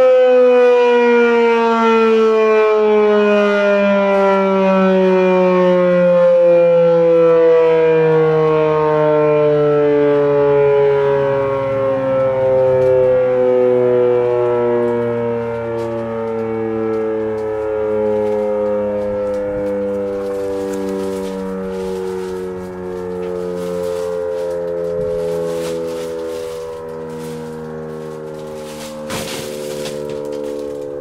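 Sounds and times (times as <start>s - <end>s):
mechanical siren winding down: 0.0s - 31.0s.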